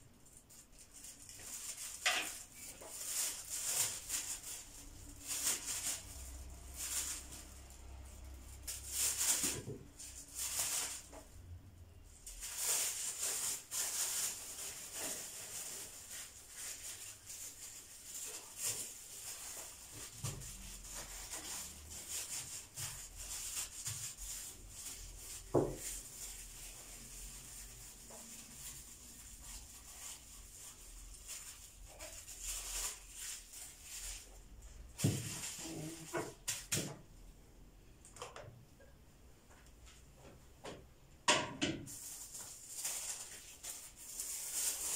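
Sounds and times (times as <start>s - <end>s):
plastic bag crinkling: 0.0s - 11.5s, 12.1s - 36.8s, 41.9s - 44.9s.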